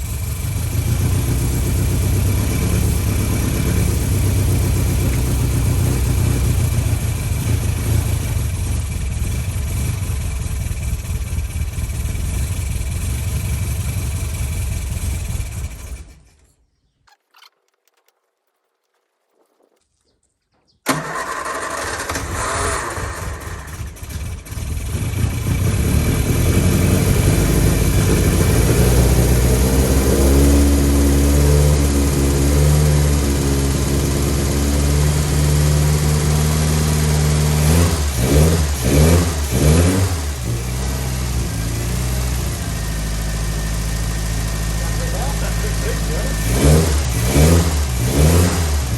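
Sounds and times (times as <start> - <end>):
engine revving: 0.0 - 16.2, 20.9 - 48.9
car engine starting and idling: 0.0 - 16.6, 20.8 - 48.9.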